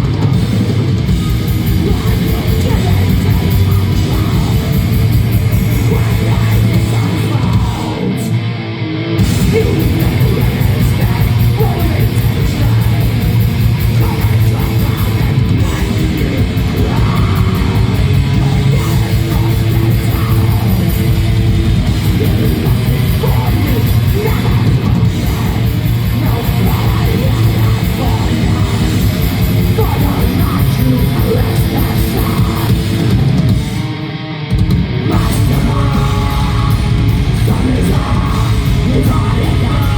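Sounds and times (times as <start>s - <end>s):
black metal band playing live: 0.0s - 39.9s.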